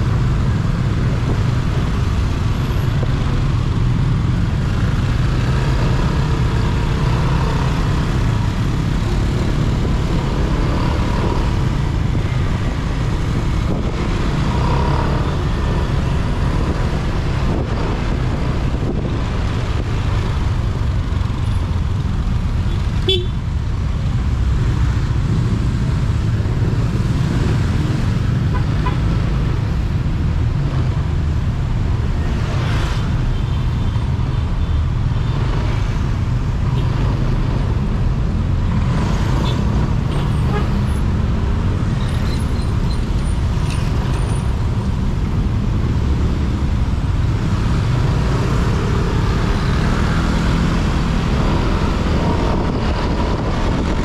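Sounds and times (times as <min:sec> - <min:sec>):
motorcycle in city traffic: 0:00.0 - 0:54.0.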